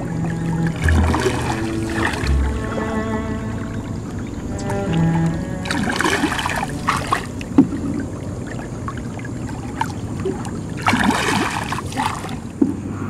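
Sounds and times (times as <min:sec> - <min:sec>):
small splashes and drips: 0:00.0 - 0:02.6, 0:03.8 - 0:12.7
paddle strokes through water: 0:00.0 - 0:12.9
low steady hum: 0:00.0 - 0:13.0.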